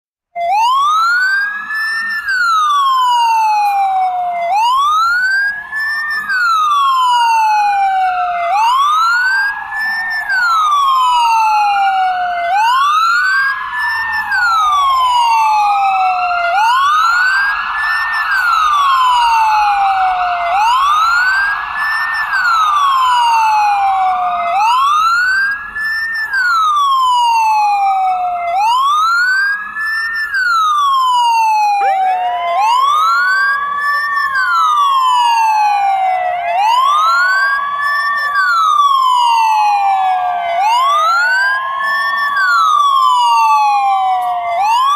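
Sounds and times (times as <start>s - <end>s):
ambulance siren wailing: 0.4s - 44.9s
fainter second siren wail: 0.4s - 44.9s.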